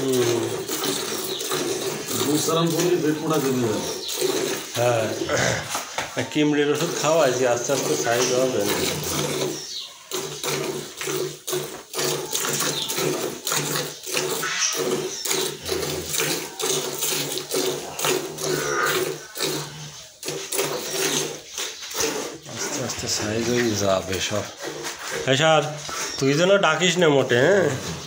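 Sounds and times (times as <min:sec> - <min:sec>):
milk squirting into pail: 0:00.0 - 0:28.0.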